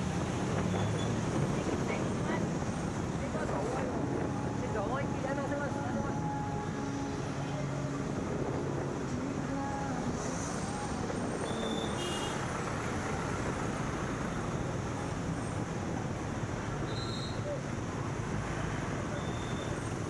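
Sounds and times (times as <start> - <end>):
road and traffic noise: 0.0 - 20.0.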